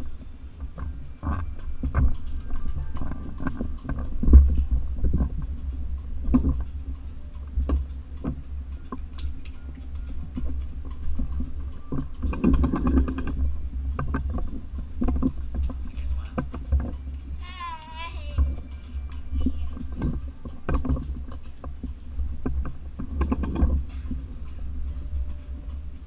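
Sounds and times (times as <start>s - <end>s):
tricycle rolling on floor: 0.0s - 26.0s
knocks and rattles: 0.7s - 17.5s, 18.2s - 26.0s.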